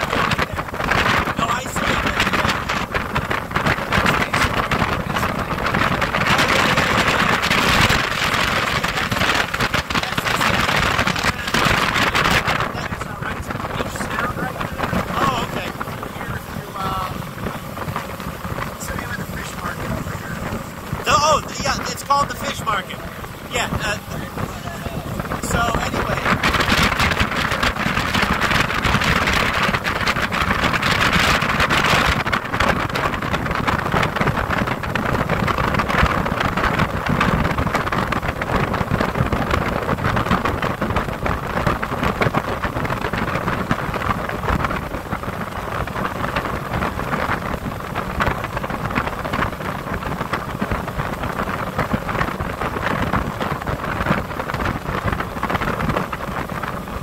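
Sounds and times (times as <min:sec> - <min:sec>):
boat engine: 0:00.0 - 0:57.0
water rushing along hull: 0:00.0 - 0:57.0
wind on microphone: 0:00.0 - 0:57.0.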